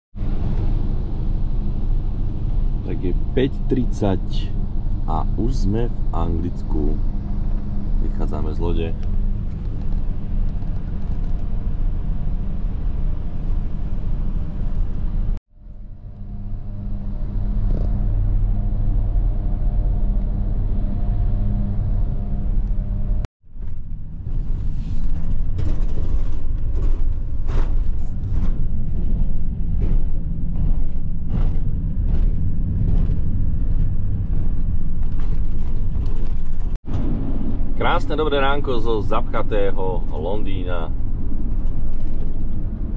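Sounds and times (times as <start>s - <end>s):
van engine and road rumble: 0.1s - 42.9s.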